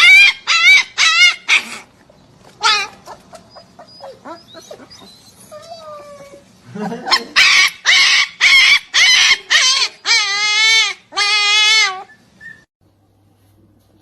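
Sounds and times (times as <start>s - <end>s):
dog wailing: 0.0s - 1.9s, 2.6s - 12.7s
dog whining and yelping: 0.0s - 1.9s, 2.5s - 12.7s.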